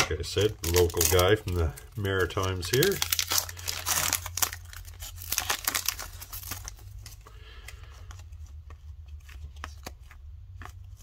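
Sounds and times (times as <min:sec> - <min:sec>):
foil wrapper crinkling: 0:00.2 - 0:11.0
cards ticking: 0:00.3 - 0:11.0.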